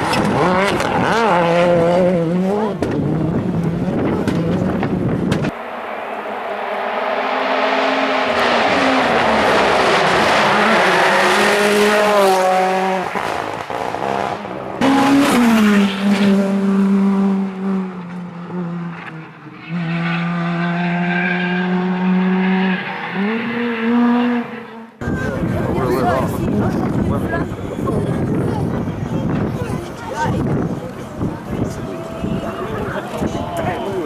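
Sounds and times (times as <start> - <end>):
rally car engine at full throttle: 0.0 - 34.0.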